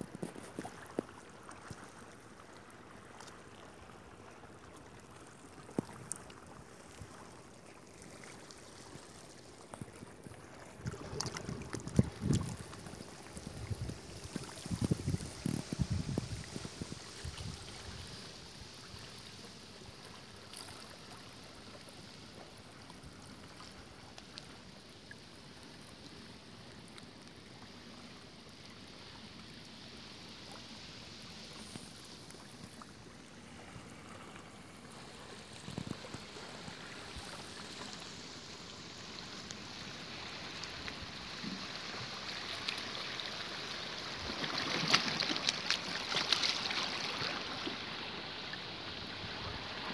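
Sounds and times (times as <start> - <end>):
waves lapping around rocks: 0.0 - 49.9.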